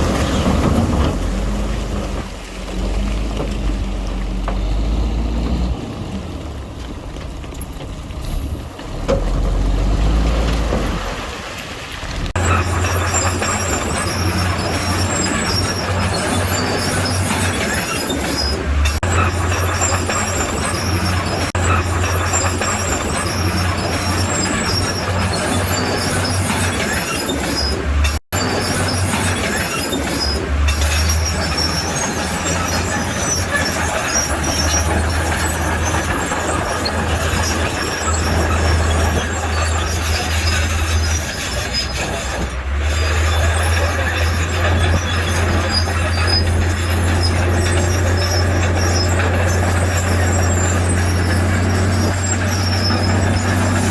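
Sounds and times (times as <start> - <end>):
diesel engine droning: 0.0 - 53.9
steel tracks squealing: 0.0 - 53.9.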